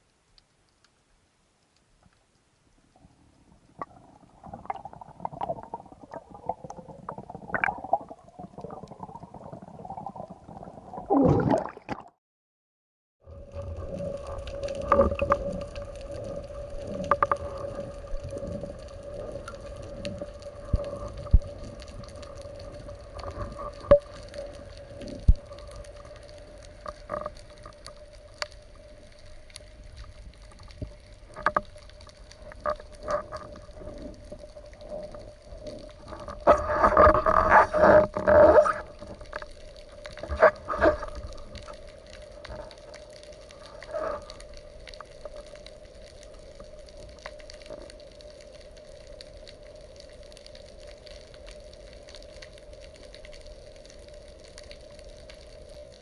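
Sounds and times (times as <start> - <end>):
underwater hum: 0.0 - 12.2, 13.2 - 56.0.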